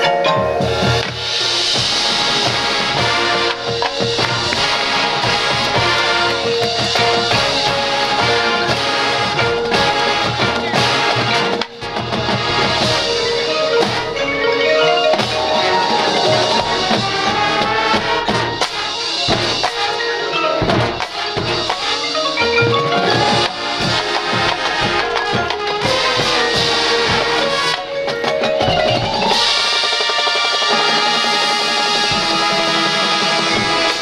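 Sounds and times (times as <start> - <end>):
drums: 0.0 - 34.0
marching band playing: 0.0 - 34.0
marimba and xylophone: 0.0 - 34.0.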